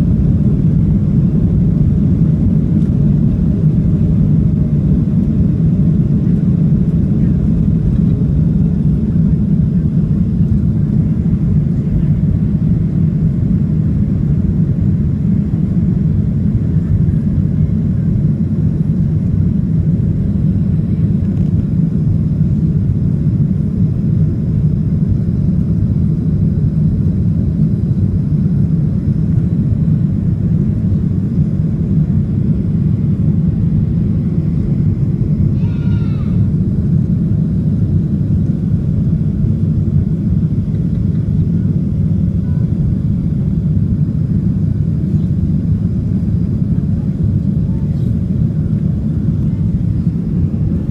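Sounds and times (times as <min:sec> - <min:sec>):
jet engines roaring: 0:00.0 - 0:50.9.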